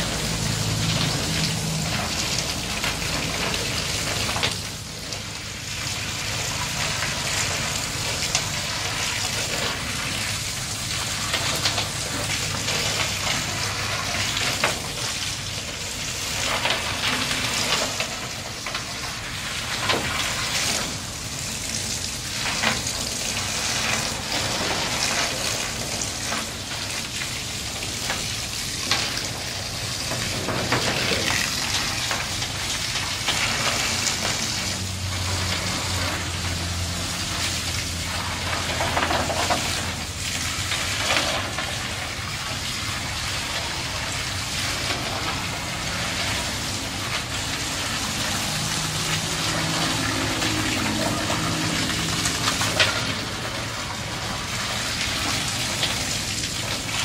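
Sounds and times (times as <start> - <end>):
heavy rain on a plastic tarp: 0.0 - 57.0
water pouring and splashing: 0.0 - 57.0.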